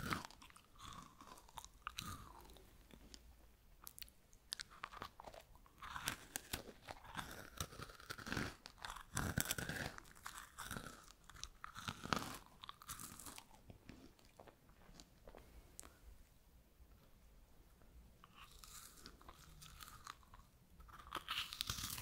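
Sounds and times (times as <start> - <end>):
crunching and chewing: 0.0 - 16.0, 18.2 - 22.0.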